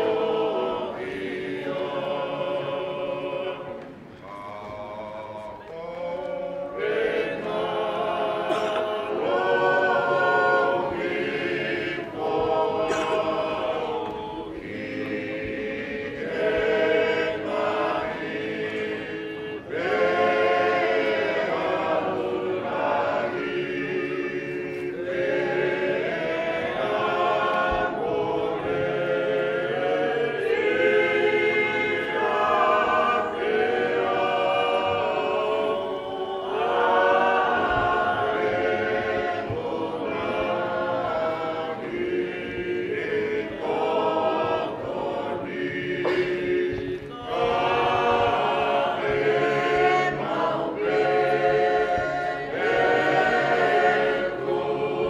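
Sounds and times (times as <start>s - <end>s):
group singing a hymn in harmony: 0.0s - 55.0s.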